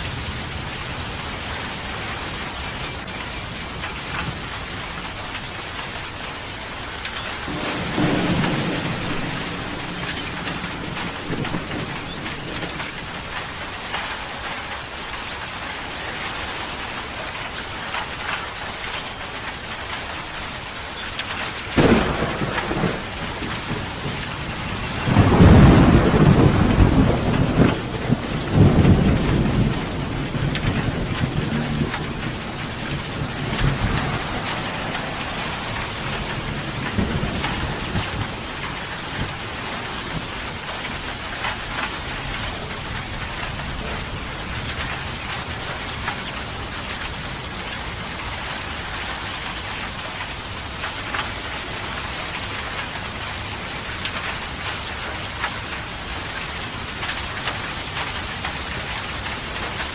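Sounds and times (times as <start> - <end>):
heavy rain: 0.0 - 59.9
thunder rumbling and cracking: 0.0 - 59.9.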